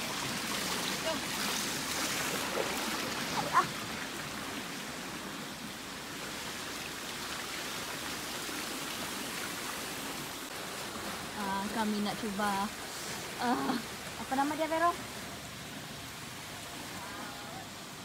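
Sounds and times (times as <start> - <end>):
water rushing down slides: 0.0 - 15.0
fountains splashing: 0.0 - 18.0.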